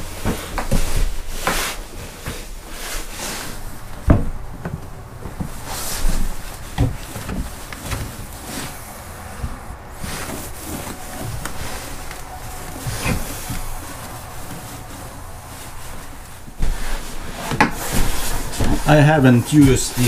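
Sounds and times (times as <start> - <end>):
knocks and rubbing on wooden floor: 0.0 - 20.0
trousers rustling: 0.0 - 20.0.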